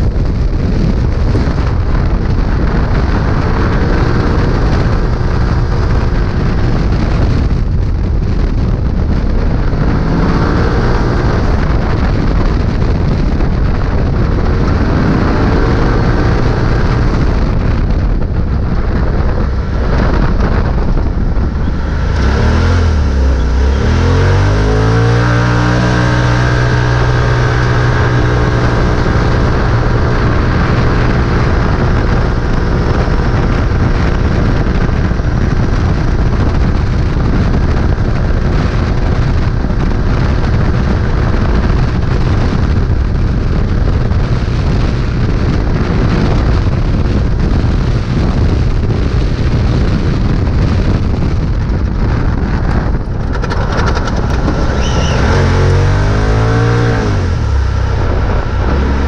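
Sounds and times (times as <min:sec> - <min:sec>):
off-road vehicle engine: 0:00.0 - 0:59.0
wind and terrain noise: 0:00.0 - 0:59.0.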